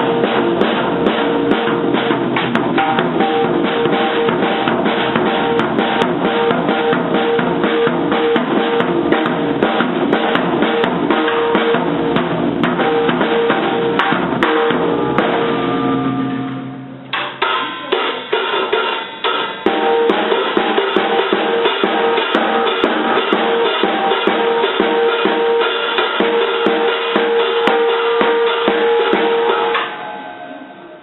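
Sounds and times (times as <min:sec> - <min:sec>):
child playing drum kit: 0:00.0 - 0:30.1
cymbals ringing: 0:00.0 - 0:31.0.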